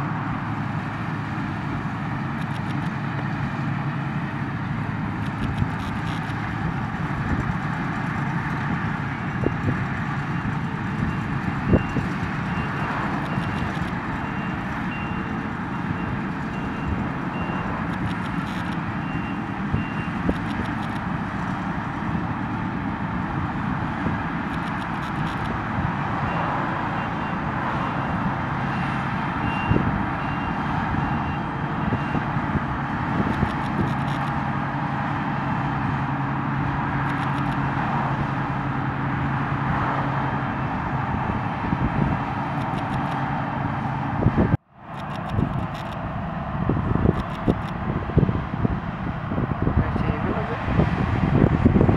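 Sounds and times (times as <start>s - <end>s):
harvest machinery engine drone: 0.0s - 51.9s.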